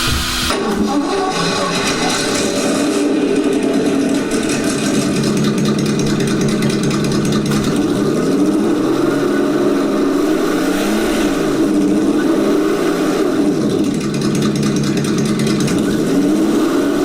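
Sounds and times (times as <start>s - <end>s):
simulated car engine revving: 0.0s - 17.0s.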